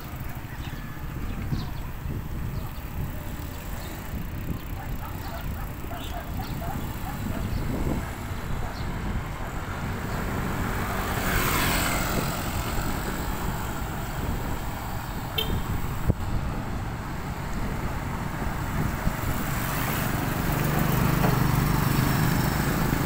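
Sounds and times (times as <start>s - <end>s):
road traffic rumble: 0.0s - 23.0s
vehicle passing: 0.0s - 23.0s
wind on the microphone: 0.1s - 23.0s.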